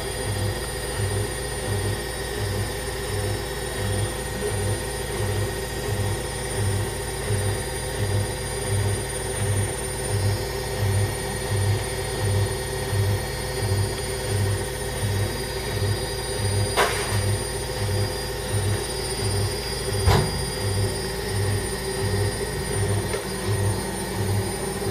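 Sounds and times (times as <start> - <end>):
machine hum with low throb: 0.0 - 24.9.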